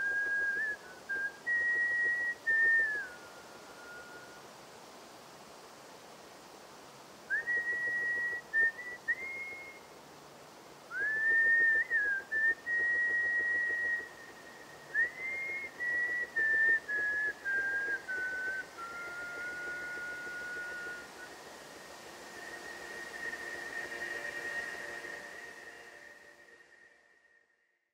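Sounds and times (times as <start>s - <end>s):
whistled melody: 0.0s - 4.4s, 7.3s - 9.9s, 10.9s - 27.4s.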